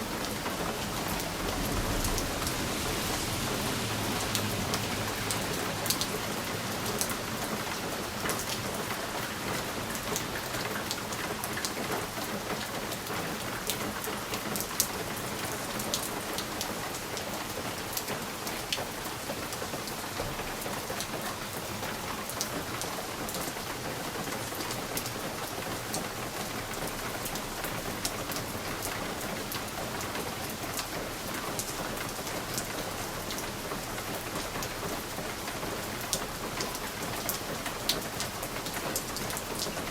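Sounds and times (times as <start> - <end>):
rain on a window pane: 0.0 - 39.9.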